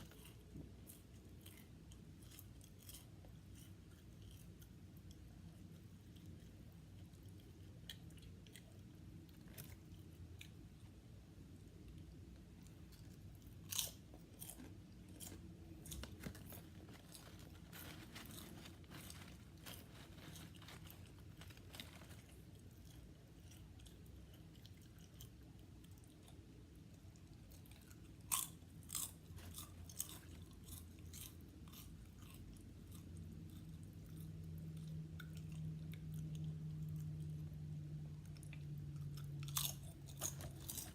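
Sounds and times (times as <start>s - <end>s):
chewing potato chips: 0.0s - 40.9s
faint low hum: 0.0s - 40.9s.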